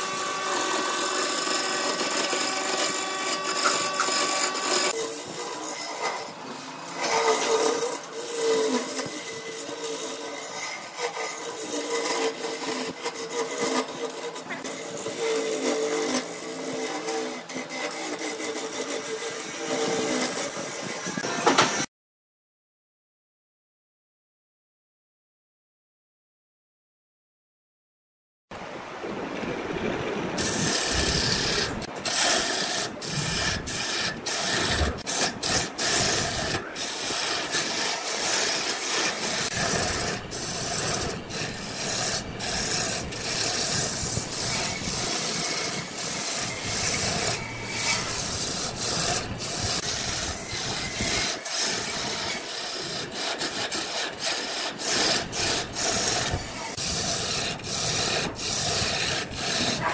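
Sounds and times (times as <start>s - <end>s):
lathe tool scraping wood: 0.0s - 21.9s, 30.4s - 59.9s.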